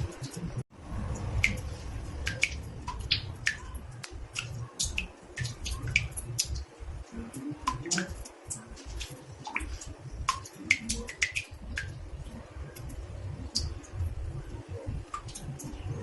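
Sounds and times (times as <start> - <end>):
water drops plinking in bathtub: 1.1 - 16.0.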